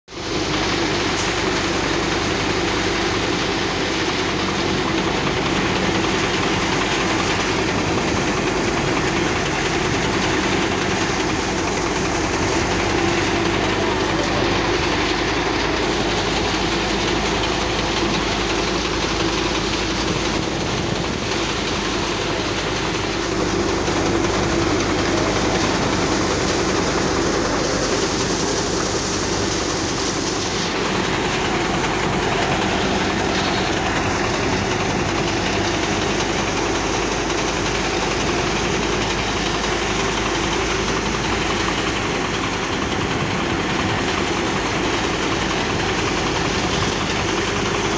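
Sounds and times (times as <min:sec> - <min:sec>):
thresher rattling and humming: 0:00.1 - 0:47.9.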